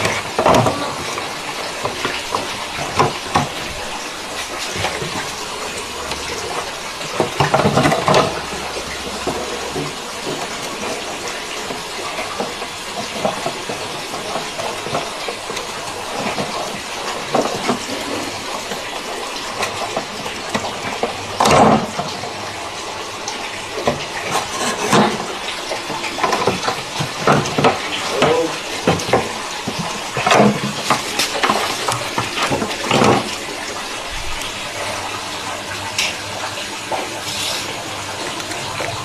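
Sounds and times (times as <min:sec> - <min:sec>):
spraying water rushing: 0:00.0 - 0:39.0.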